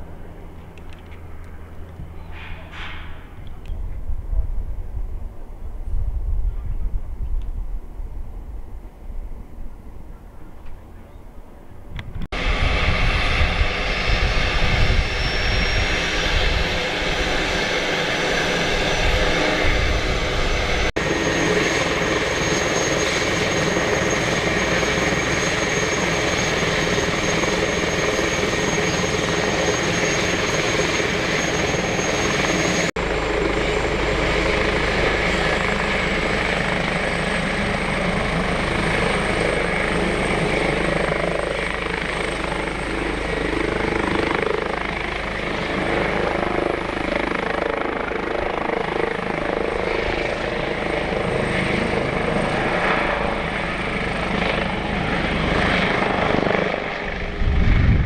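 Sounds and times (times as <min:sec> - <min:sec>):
helicopter rotor rumble: 0:00.0 - 0:58.0
helicopter turbine whine: 0:00.0 - 0:58.0.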